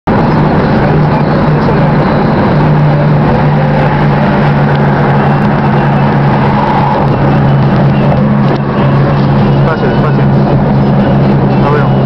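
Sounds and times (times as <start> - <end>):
car engine drone: 0.1 - 12.0
wind noise: 0.1 - 12.0.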